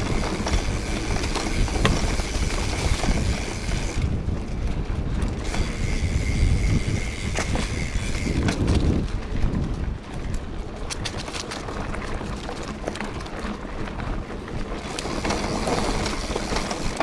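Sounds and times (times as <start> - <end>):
rumbling movement noise: 0.0 - 17.0.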